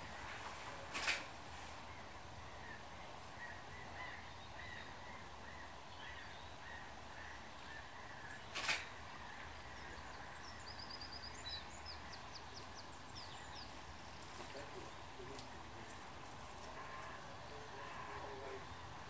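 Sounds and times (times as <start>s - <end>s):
small birds calling: 0.0s - 19.0s.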